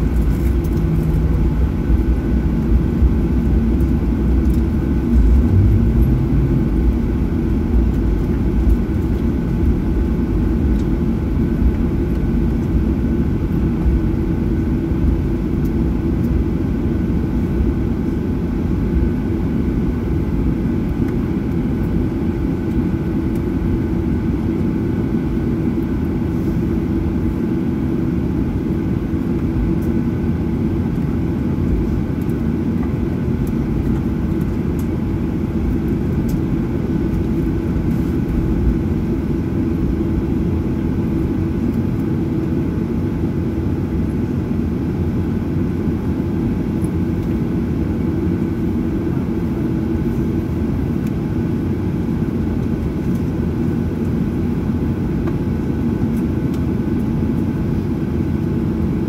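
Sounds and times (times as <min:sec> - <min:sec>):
cabin air system hum: 0:00.0 - 0:59.0
jet engines idling: 0:00.0 - 0:59.0.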